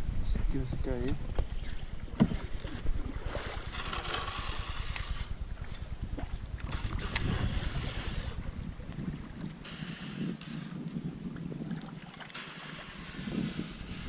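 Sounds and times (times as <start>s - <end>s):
wind buffeting microphone: 0.0s - 14.0s
water lapping against hull: 0.5s - 14.0s.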